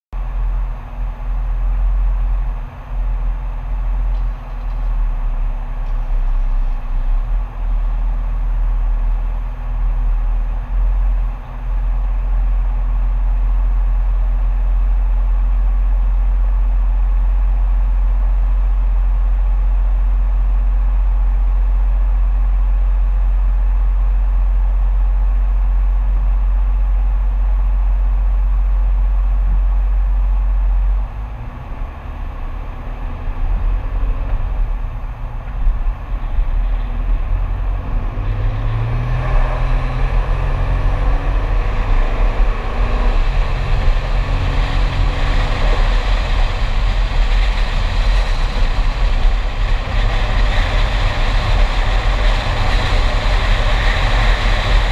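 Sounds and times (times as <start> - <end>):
car engine idling: 0.2 - 54.9.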